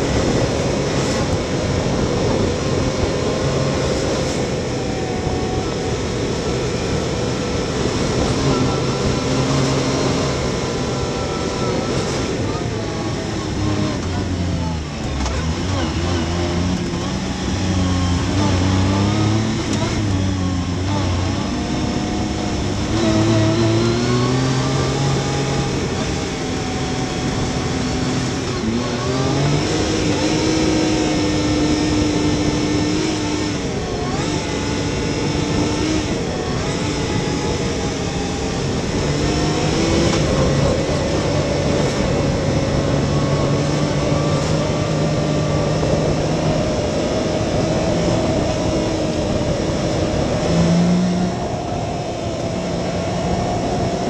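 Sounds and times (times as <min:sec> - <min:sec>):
engine running under load: 0:00.0 - 0:54.0
tyre and chassis noise: 0:00.0 - 0:54.0.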